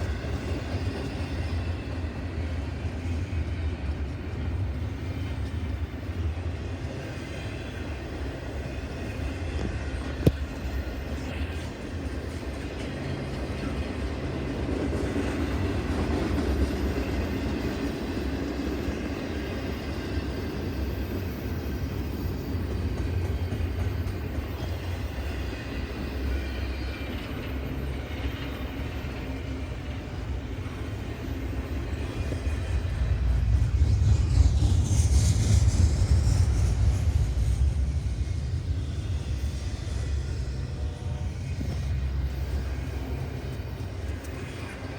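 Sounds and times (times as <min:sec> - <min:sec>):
train rumbling by: 0:00.0 - 0:44.9.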